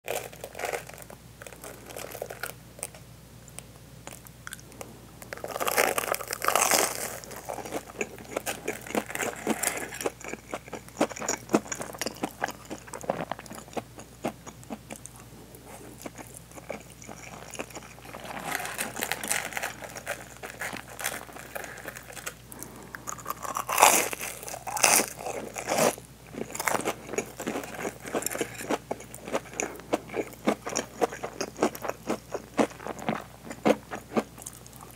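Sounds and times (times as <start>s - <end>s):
crunching and chewing fried food: 0.1s - 34.9s.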